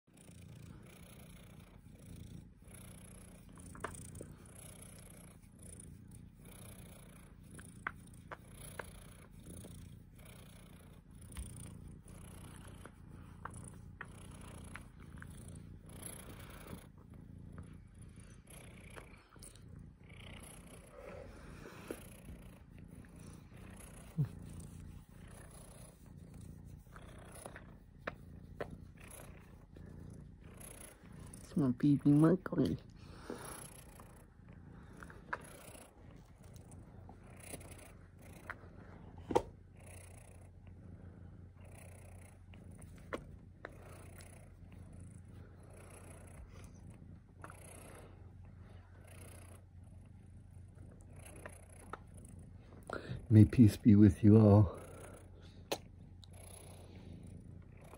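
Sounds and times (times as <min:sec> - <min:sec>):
cat purring: 0:00.1 - 0:57.9.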